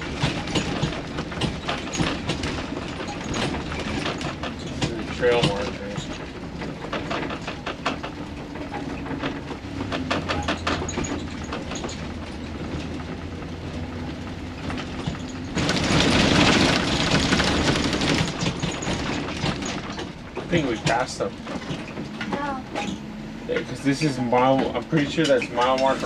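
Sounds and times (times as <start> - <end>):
cabin rattling and clicking: 0.0 - 26.0
low engine hum: 0.0 - 26.0.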